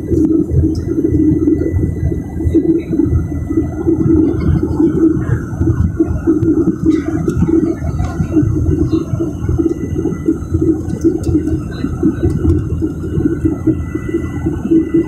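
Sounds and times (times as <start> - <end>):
jet engines roaring in cabin: 0.0 - 15.0.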